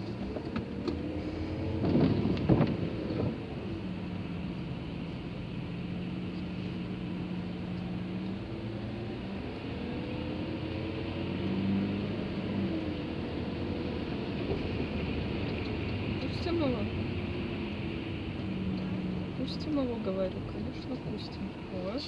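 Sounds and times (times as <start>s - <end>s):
car engine and road hum: 0.0s - 22.0s.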